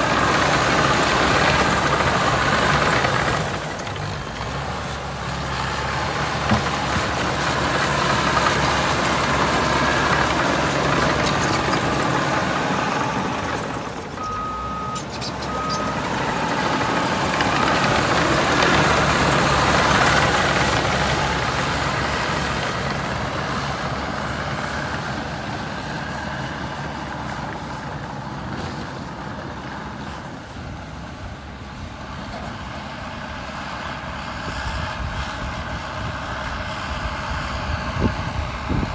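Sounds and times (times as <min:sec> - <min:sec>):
bulldozer diesel engine working: 0:00.0 - 0:38.9.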